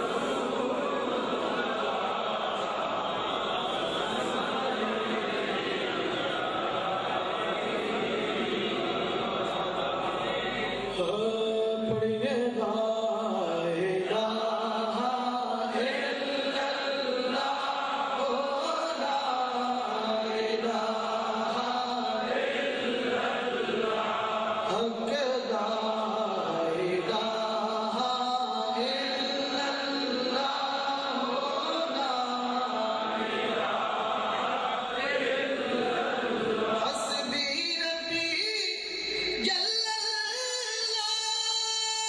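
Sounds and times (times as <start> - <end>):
man chanting into a microphone: 7.3 - 33.6, 34.3 - 42.0.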